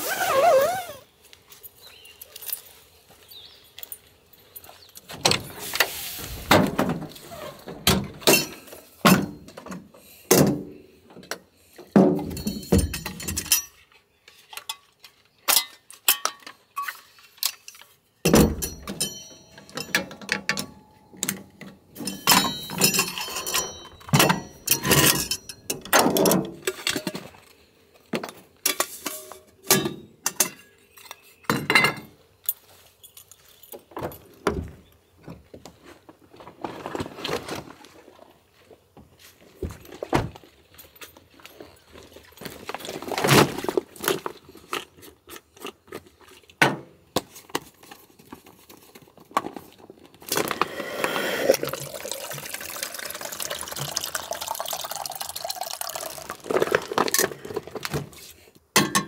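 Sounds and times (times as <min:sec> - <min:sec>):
camp gear clinking and clanking: 0:00.0 - 0:59.0.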